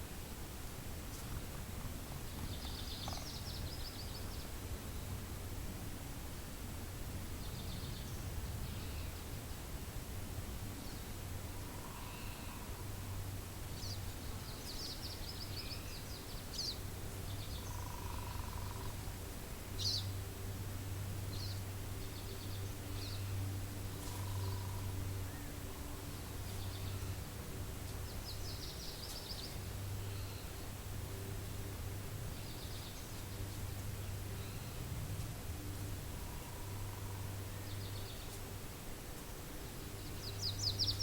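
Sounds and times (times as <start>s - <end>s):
songbirds chirping and trilling: 0.0s - 5.7s, 7.0s - 41.0s
low rumble of wind: 0.0s - 41.0s.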